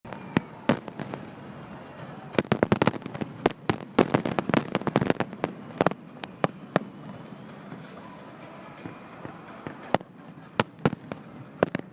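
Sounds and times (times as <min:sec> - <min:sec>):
fireworks bangs and crackles: 0:00.1 - 0:11.9.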